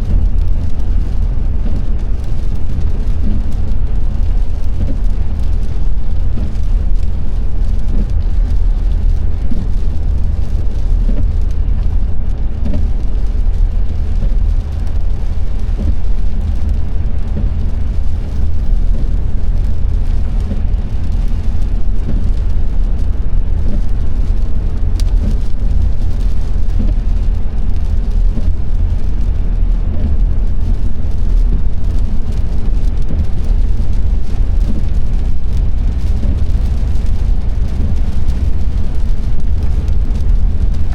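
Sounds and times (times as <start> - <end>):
road and engine rumble: 0.0 - 40.9
wet tyres and rain hissing: 0.0 - 40.9.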